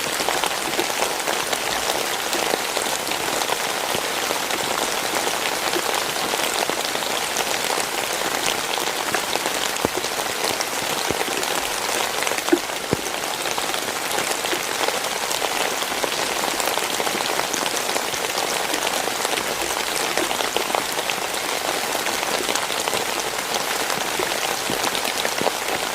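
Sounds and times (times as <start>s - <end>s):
heavy rain: 0.0s - 25.9s
raindrops ticking: 0.0s - 25.9s.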